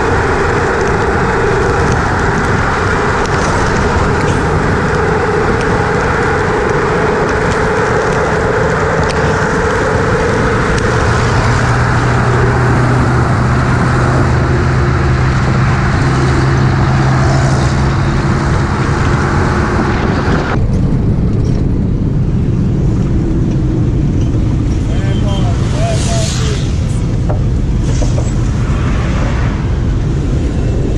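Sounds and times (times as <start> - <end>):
bus engine: 0.0 - 30.9
wind rush: 0.0 - 30.9.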